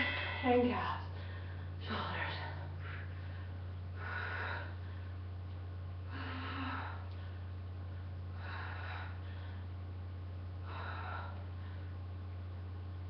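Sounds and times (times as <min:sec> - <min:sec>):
woman breathing hard: 0:00.0 - 0:05.4, 0:06.0 - 0:09.9, 0:10.6 - 0:12.2
low electrical hum: 0:00.0 - 0:13.0.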